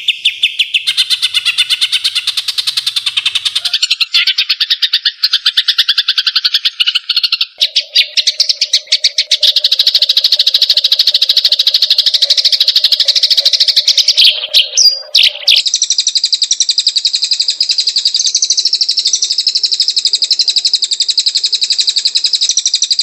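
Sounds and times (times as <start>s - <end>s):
songbird singing rapid trills: 0.0s - 23.0s.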